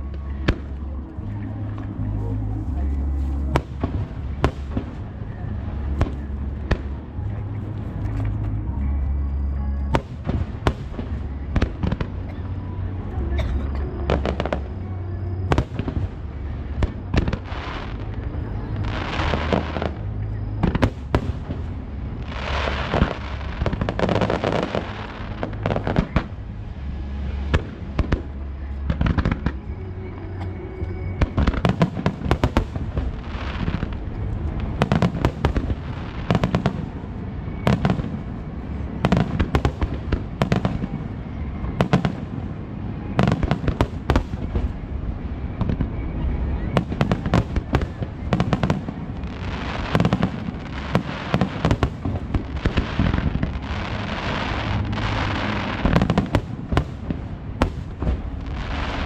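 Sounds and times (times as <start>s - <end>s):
fireworks bursting with bangs: 0.0s - 8.5s, 9.9s - 12.9s, 13.6s - 14.8s, 15.4s - 29.7s, 31.2s - 59.0s
fireworks crackling: 0.0s - 29.8s, 30.8s - 59.0s.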